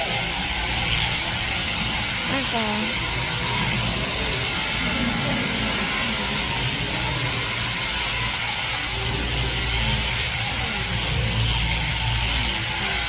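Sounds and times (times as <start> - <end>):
electric sheep shears running: 0.0 - 13.0.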